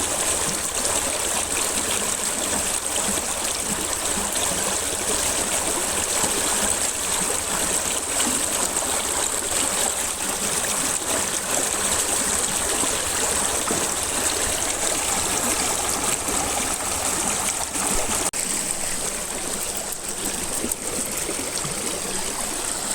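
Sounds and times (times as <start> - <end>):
river water flowing: 0.0 - 22.9.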